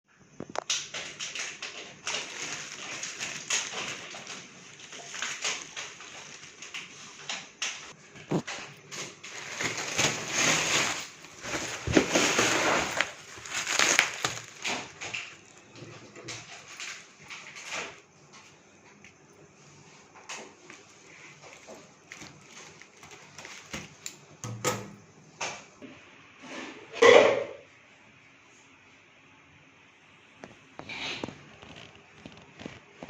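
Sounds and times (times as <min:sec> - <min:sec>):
packaging rustling and crinkling: 0:00.5 - 0:24.4, 0:30.4 - 0:33.0.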